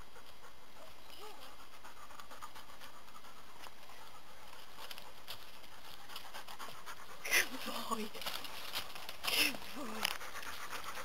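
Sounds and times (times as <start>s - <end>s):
footsteps and hooves in dry leaves: 0.1s - 11.0s.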